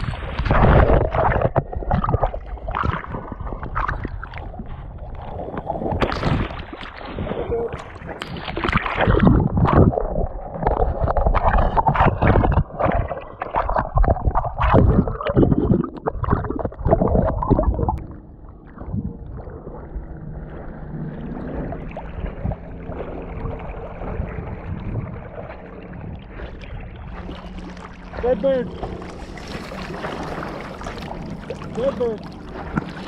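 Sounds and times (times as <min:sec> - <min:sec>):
soft wash of water: 0:00.0 - 0:33.0
water splashing and sloshing: 0:00.0 - 0:33.0.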